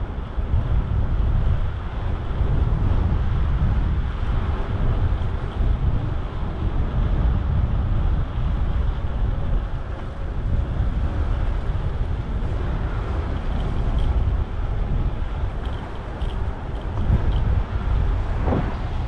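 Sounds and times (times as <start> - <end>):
street traffic: 0.0 - 19.0
wind rumble on microphone: 0.0 - 19.0.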